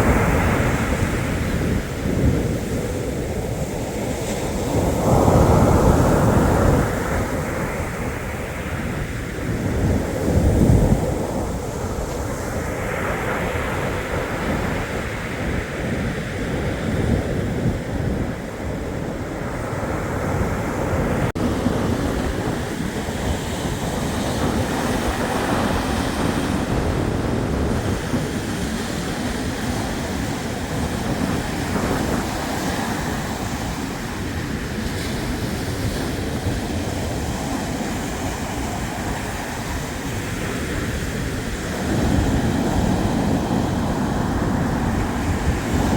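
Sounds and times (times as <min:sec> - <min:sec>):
surf washing on shore: 0:00.0 - 0:45.9
wind rumbling on microphone: 0:00.0 - 0:45.9.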